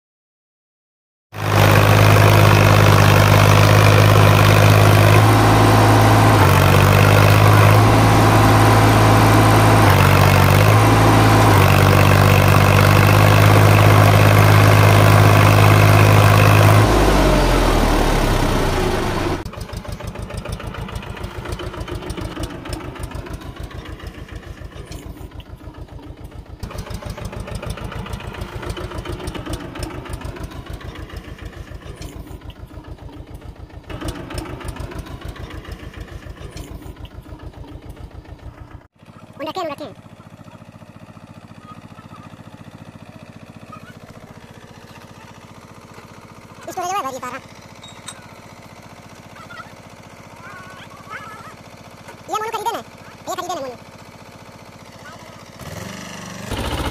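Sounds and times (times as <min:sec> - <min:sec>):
tractor diesel engine revving: 0:01.3 - 0:56.9
tractor engine idling: 0:01.4 - 0:56.9.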